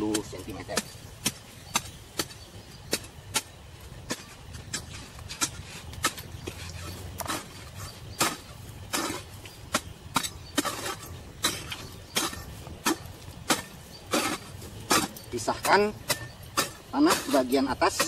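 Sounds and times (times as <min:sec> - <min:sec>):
hoe chopping into earth: 0:00.0 - 0:18.0.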